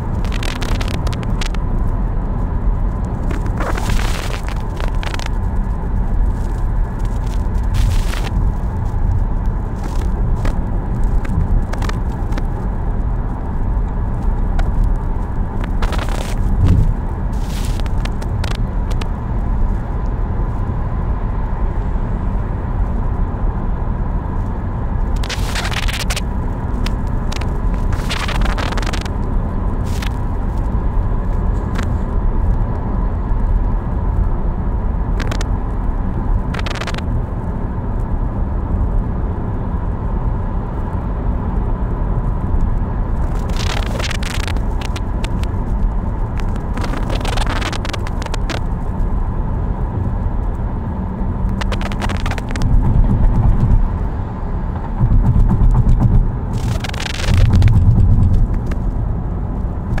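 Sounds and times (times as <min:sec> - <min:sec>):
car engine and tyres rumbling: 0:00.0 - 1:00.0.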